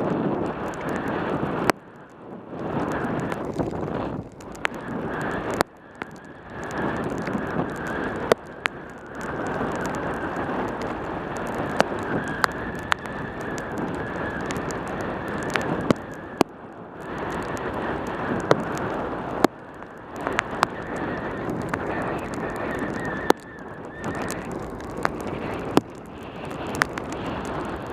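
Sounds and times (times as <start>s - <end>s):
wind rushing over microphone: 0.0s - 27.9s
sharp ticks and clicks: 0.4s - 27.9s.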